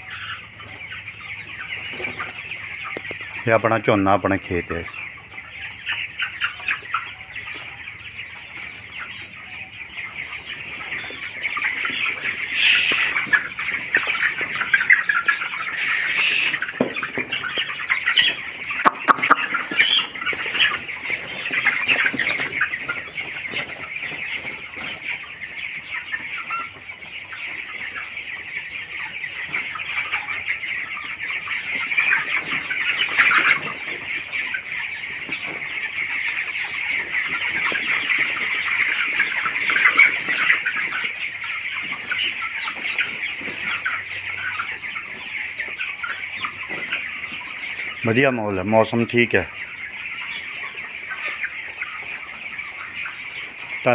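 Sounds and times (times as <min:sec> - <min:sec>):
chickens cheeping and clucking: 0:00.0 - 0:53.9.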